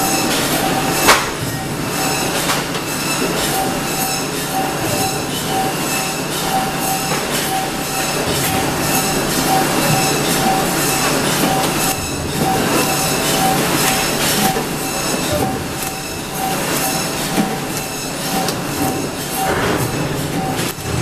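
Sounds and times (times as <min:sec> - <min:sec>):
loud machinery noise: 0:00.0 - 0:21.0.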